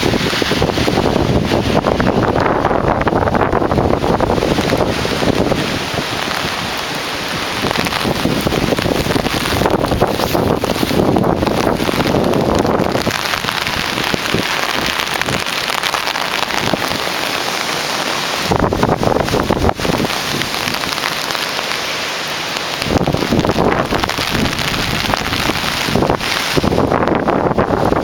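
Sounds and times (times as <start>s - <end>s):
wind gusts buffeting microphone: 0.0s - 21.8s, 22.6s - 28.0s
heavy rain pouring: 0.0s - 28.0s.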